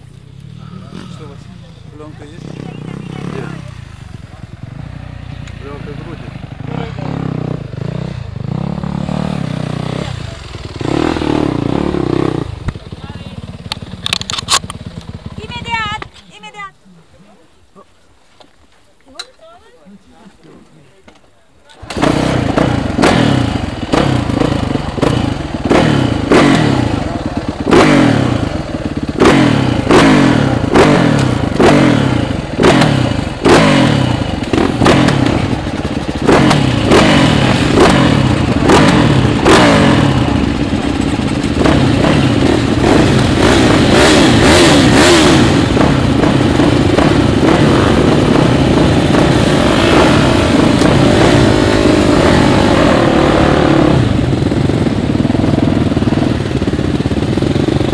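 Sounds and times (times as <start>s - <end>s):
motocross bike engine revving: 0.0s - 16.0s, 21.8s - 57.9s.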